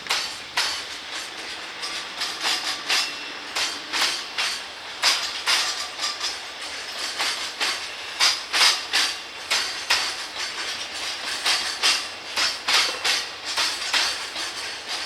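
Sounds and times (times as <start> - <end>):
rolling hiss of freight wagons: 0.0 - 15.0
train wheels clacking on rails: 0.0 - 15.0.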